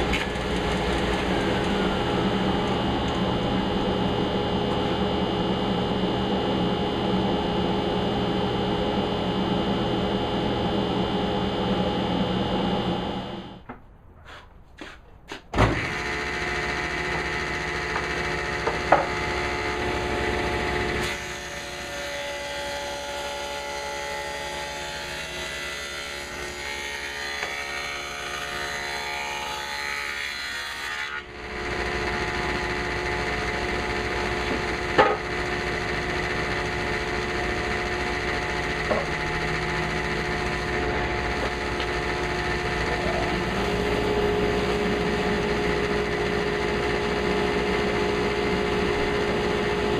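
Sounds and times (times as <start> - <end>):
power tool cutting wood: 0.0 - 13.6, 15.6 - 49.9.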